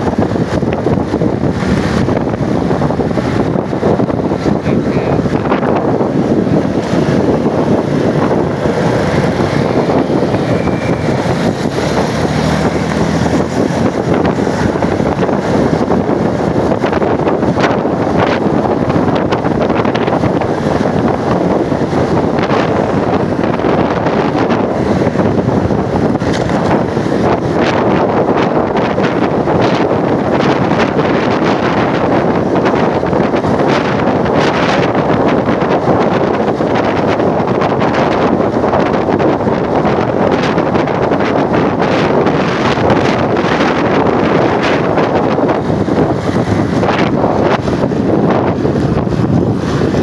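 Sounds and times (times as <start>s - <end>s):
road vehicle noise: 0.0s - 50.0s
wind on microphone: 0.0s - 50.0s.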